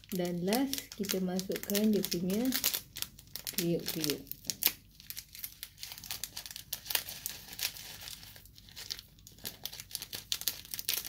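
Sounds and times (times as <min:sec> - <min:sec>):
foil sachet crinkling: 0:00.0 - 0:11.0.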